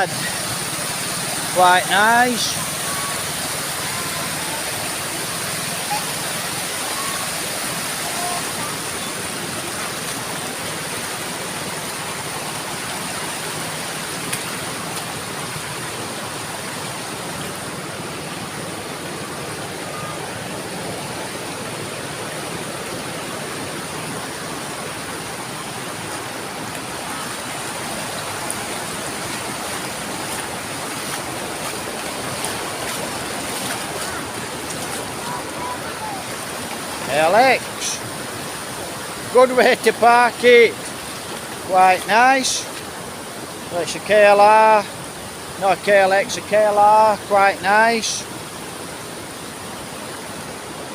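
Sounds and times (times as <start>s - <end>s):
river water rushing over rocks: 0.0s - 50.9s.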